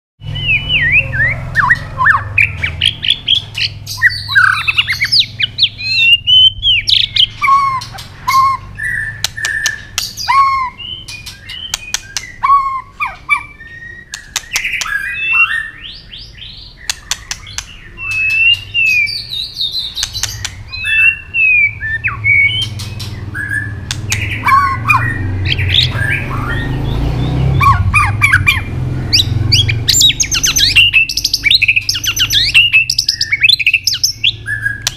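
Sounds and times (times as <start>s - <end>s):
bird whistled song: 0.2s - 34.9s
sharp bird clicks: 1.6s - 15.6s, 16.7s - 21.2s, 21.8s - 26.6s, 27.6s - 34.9s.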